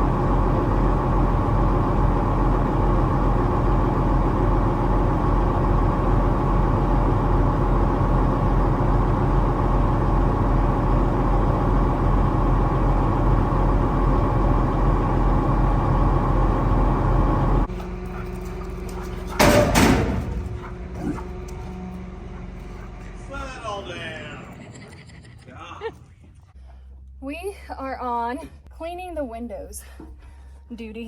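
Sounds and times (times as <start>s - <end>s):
large vehicle engine idling: 0.0s - 24.9s.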